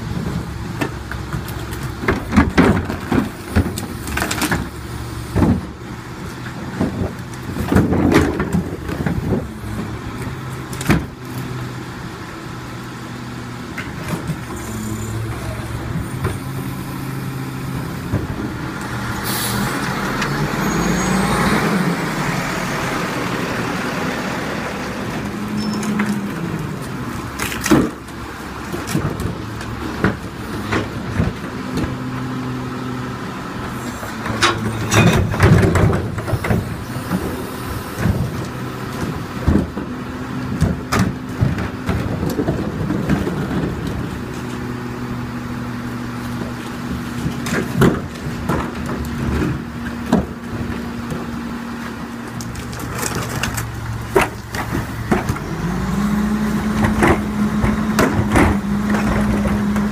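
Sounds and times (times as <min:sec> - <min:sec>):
garbage truck engine running: 0:00.0 - 0:59.9
hydraulic cart tipper: 0:00.0 - 0:59.9.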